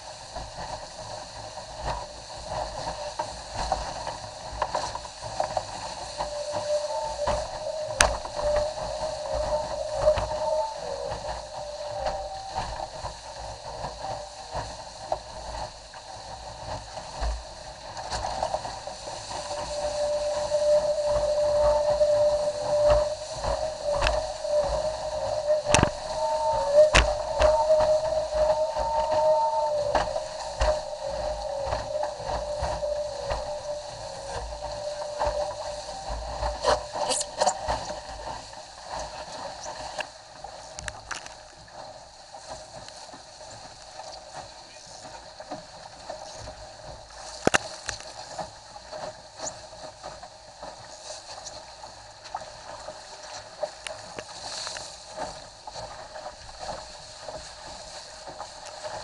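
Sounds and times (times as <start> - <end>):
hull knocking on waves: 0.0 - 59.0
spray splashing over boat: 0.0 - 59.0
water rushing along a hull: 0.0 - 59.0.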